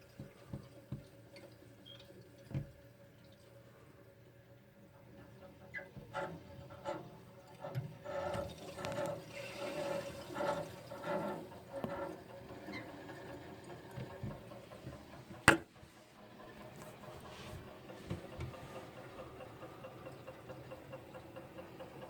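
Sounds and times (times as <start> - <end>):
water rushing in pipes: 0.0 - 22.0.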